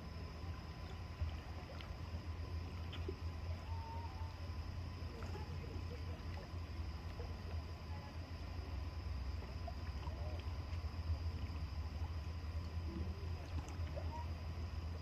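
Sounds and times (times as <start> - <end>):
steady low rumble: 0.0 - 15.0
thin high whine: 0.0 - 15.0.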